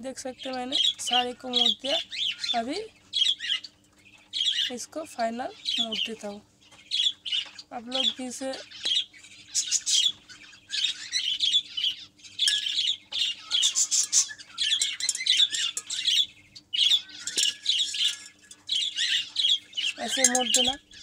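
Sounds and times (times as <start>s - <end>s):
small birds chattering and squawking: 0.0s - 21.0s.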